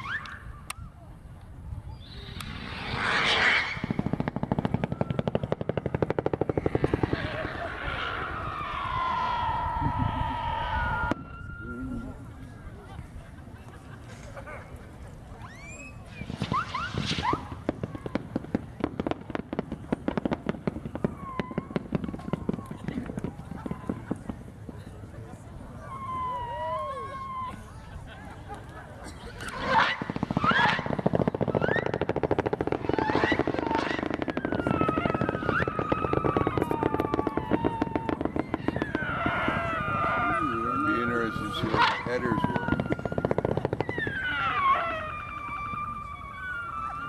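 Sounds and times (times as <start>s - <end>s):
rockets whistling: 0.0s - 12.3s, 15.4s - 24.9s, 25.8s - 27.9s, 29.3s - 47.0s
fireworks popping and crackling: 1.4s - 11.5s, 13.6s - 47.0s.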